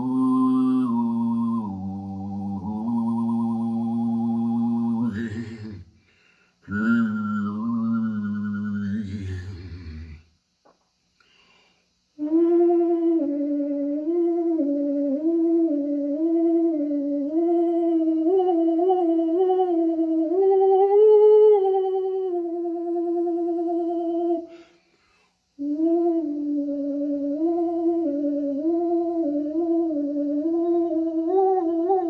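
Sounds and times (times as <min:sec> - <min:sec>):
person humming a slow tune: 0:00.0 - 0:10.3, 0:12.2 - 0:24.7, 0:25.6 - 0:32.0.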